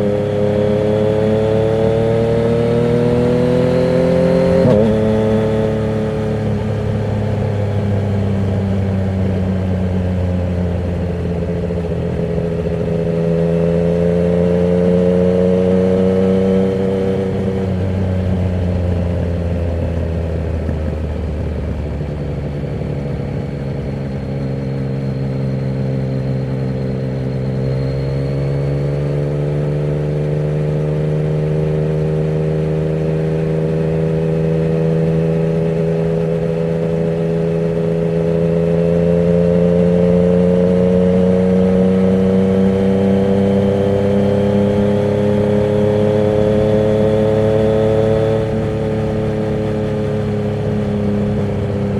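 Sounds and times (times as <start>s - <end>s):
motorcycle engine while riding: 0.0s - 51.9s.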